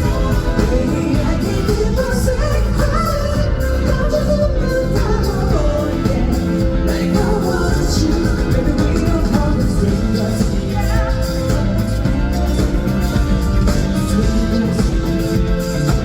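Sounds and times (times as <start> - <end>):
live pop rock band playing: 0.0 - 16.0
person singing: 0.0 - 16.0.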